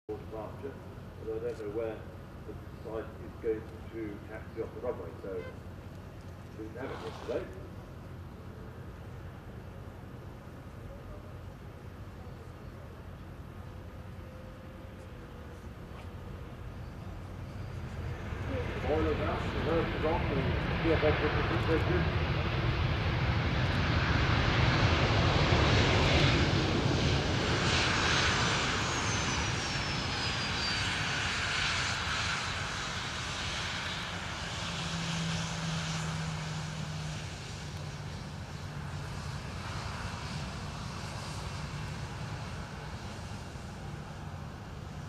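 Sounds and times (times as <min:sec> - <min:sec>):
jet engines rushing: 0:00.3 - 0:10.8, 0:12.0 - 0:45.0.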